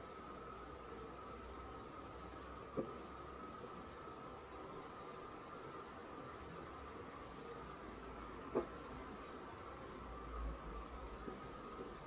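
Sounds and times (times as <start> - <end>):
faint hum and hiss: 0.0 - 12.0.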